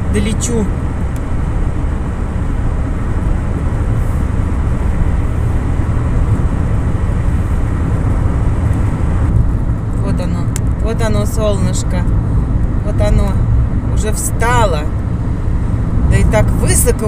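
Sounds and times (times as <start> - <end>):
car cabin road noise: 0.0 - 17.0.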